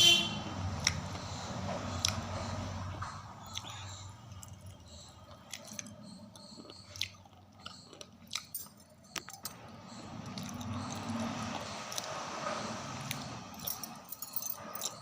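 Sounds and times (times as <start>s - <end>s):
crunching and chewing: 0.8s - 13.9s, 14.6s - 15.0s.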